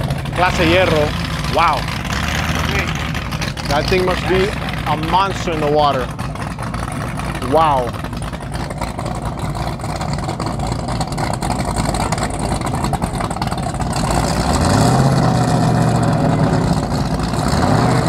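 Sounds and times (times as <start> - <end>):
powerboat engines idling and revving: 0.0 - 18.0.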